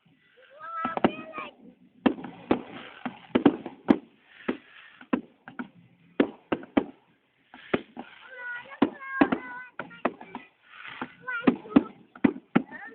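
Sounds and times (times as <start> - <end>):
faint crackle: 0.0 - 12.9
fireworks bangs and pops: 0.0 - 12.9.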